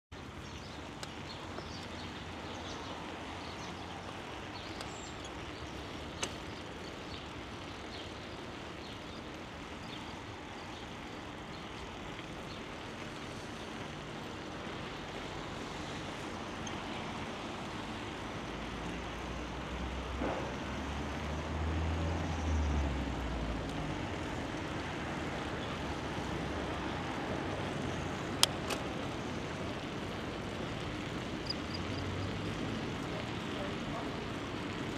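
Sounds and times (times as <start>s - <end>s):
wind and tyres rushing: 0.1s - 34.9s.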